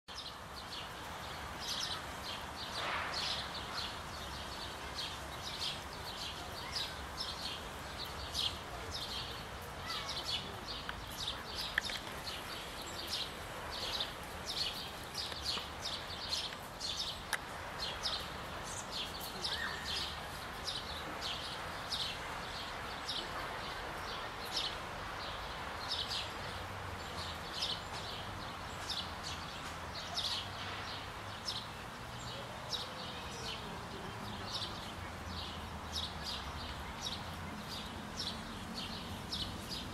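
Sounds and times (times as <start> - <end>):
faint background noise: 0.1 - 39.9.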